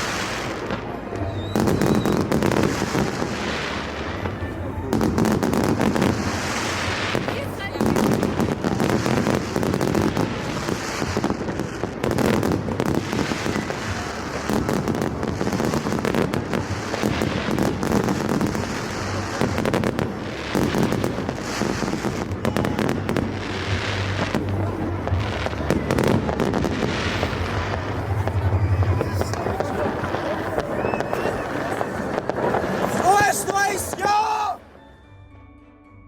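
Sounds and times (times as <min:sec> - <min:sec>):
fireworks bangs and crackles: 0:00.0 - 0:34.8.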